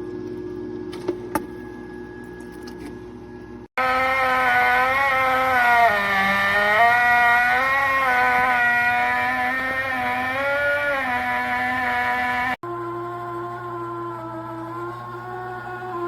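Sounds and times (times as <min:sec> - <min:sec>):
ice maker motor whine: 0:00.0 - 0:16.0.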